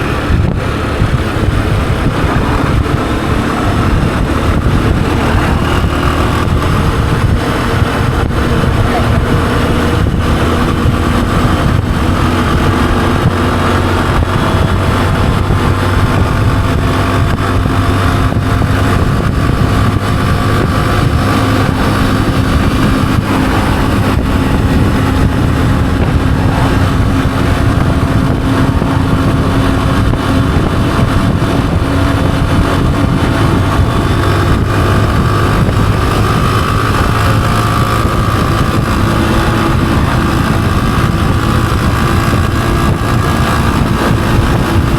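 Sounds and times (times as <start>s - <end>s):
motorcycle engine running steadily: 0.0s - 44.9s.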